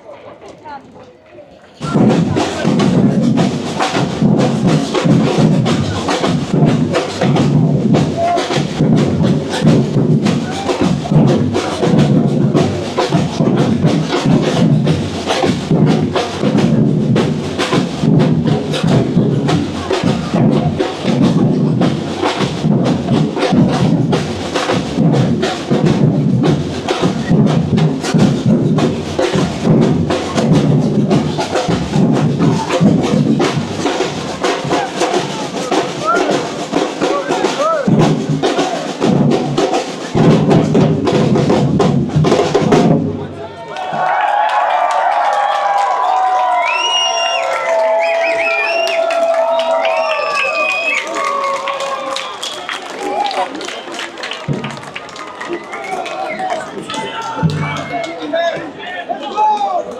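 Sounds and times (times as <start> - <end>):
street drumming: 1.7 - 59.9.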